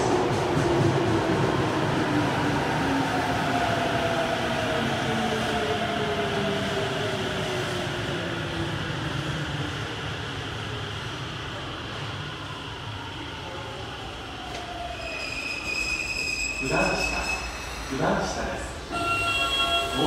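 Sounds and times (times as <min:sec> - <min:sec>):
subway train wheel rumble: 0:00.0 - 0:20.0.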